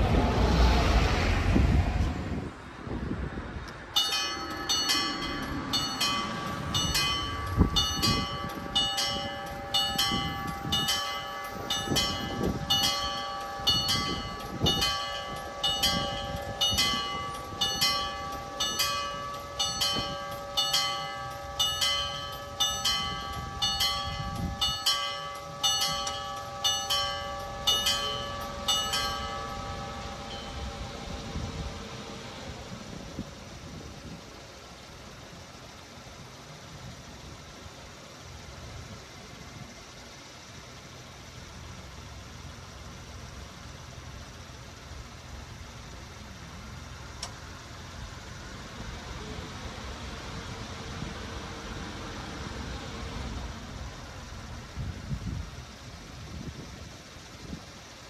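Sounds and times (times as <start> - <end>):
level-crossing warning bells ringing: 3.9 - 58.0.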